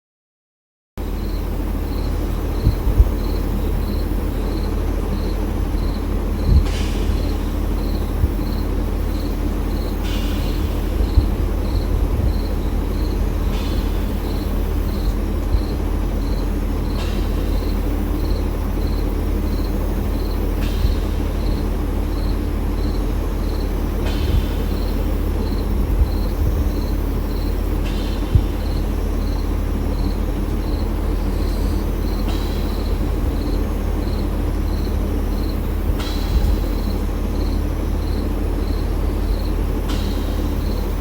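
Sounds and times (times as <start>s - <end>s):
steady low rumble: 1.0s - 41.0s
insects chirping: 1.1s - 41.0s.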